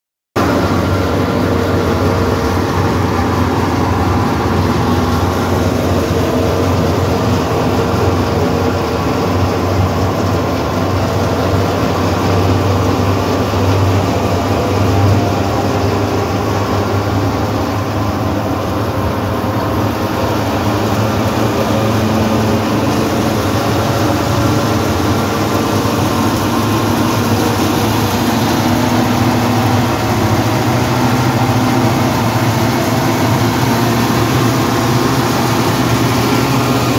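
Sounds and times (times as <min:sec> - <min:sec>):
low drone: 0:00.4 - 0:36.9
threshing machine running: 0:00.4 - 0:36.9.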